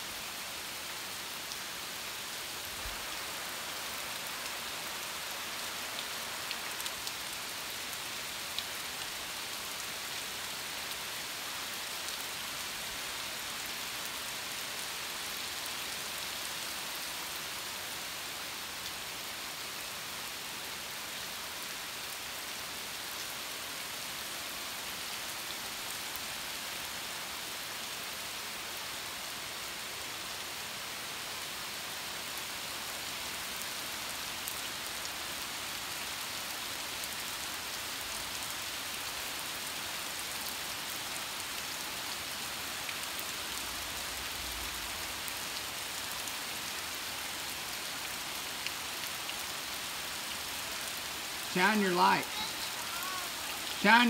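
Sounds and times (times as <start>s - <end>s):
rain hissing on road: 0.0s - 54.0s.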